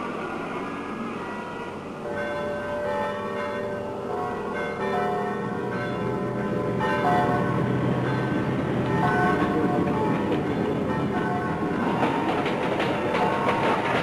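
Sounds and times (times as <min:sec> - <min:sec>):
steady background noise: 0:00.0 - 0:14.0
church bells ringing: 0:01.2 - 0:14.0.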